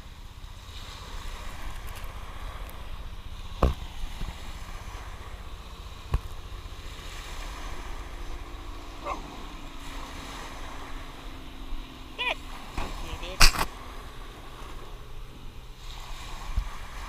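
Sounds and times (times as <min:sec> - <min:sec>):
small waves breaking: 0:00.0 - 0:17.0
wind rumbling on microphone: 0:00.0 - 0:17.0.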